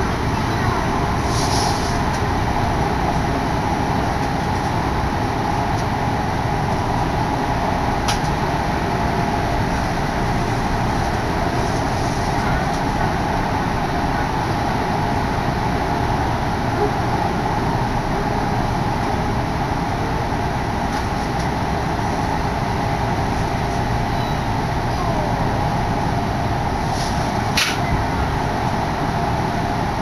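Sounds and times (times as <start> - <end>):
train running noise from inside: 0.0 - 30.0.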